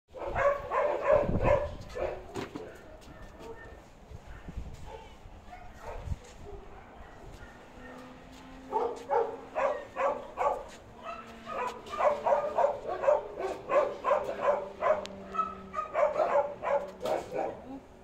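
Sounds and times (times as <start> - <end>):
dog barking in high yips: 0.2 - 17.8.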